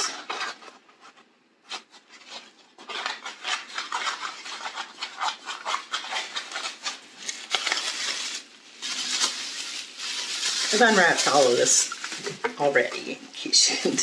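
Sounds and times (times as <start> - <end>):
packaging rustling and scraping: 0.0 - 14.0.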